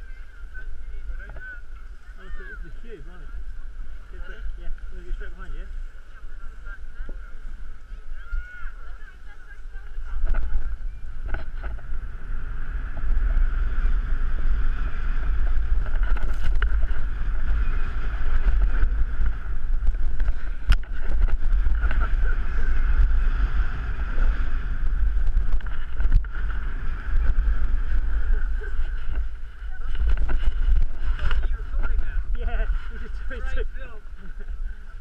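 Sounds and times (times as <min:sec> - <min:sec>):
skis sliding over snow: 0:00.0 - 0:35.0
wind rumbling on microphone: 0:00.0 - 0:35.0.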